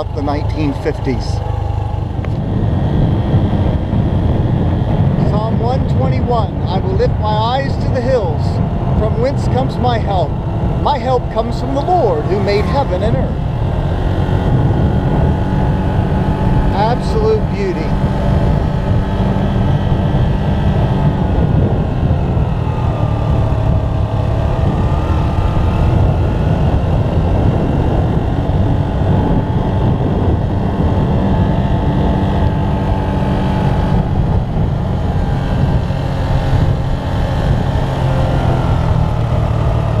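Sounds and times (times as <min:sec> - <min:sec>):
motorbike engine running: 0:00.0 - 0:40.0
wind rumble on microphone: 0:00.0 - 0:40.0.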